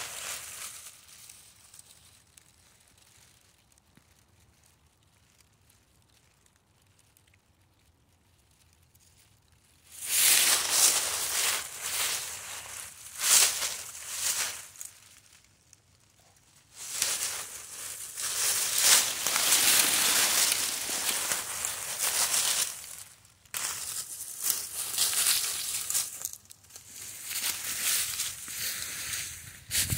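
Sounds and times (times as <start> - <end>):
dry leaves rustling and crunching: 0.0 - 7.8, 8.4 - 29.9.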